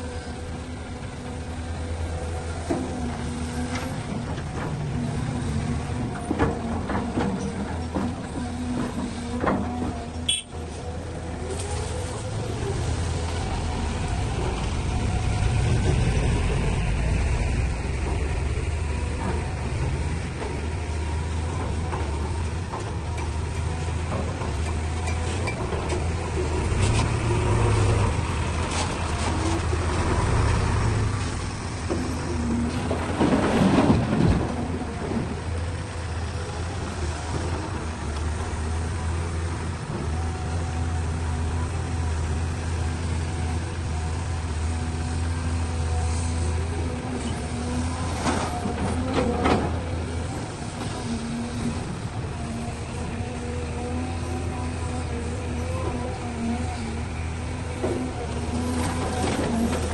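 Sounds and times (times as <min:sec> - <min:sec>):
dump truck driving: 0:00.0 - 0:59.9
excavator diesel engine: 0:00.0 - 0:59.9.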